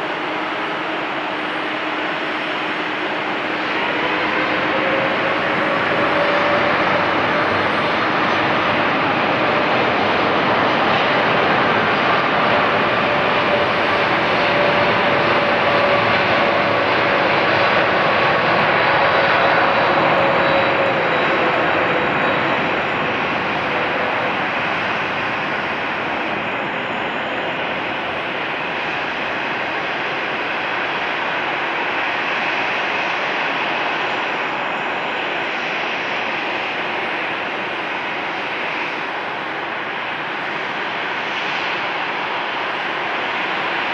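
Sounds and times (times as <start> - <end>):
airliner engines roaring: 0.0 - 43.9.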